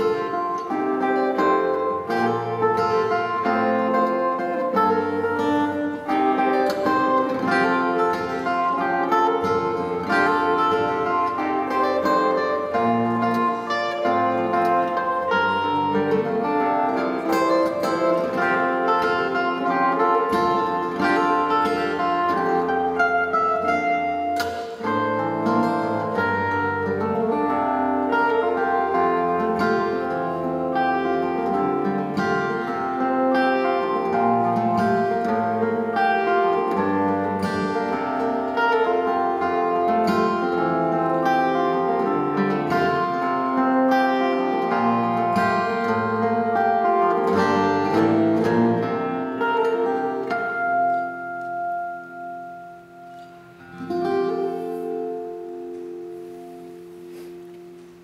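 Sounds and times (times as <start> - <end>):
fingerstyle acoustic guitar: 0.0 - 58.0.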